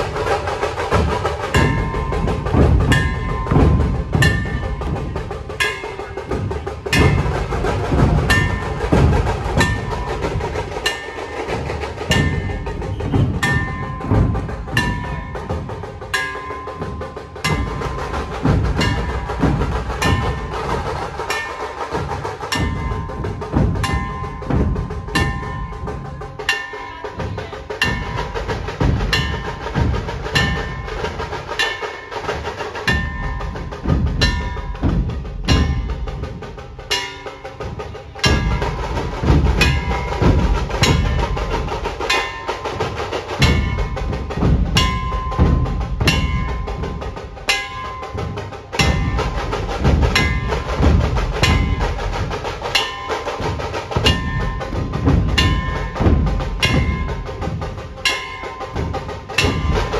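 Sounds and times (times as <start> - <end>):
barrel drums beaten in rhythm: 0.0 - 59.9.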